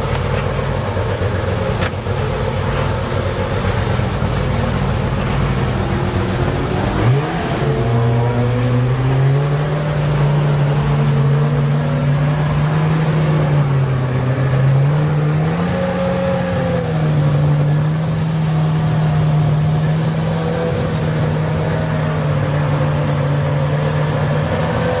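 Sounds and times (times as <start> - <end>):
race car engine running: 0.0 - 25.0.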